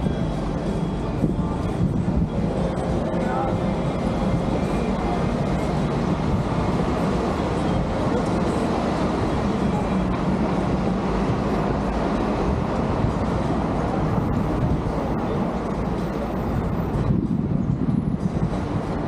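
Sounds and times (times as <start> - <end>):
vehicle rumbling in motion: 0.0 - 19.0.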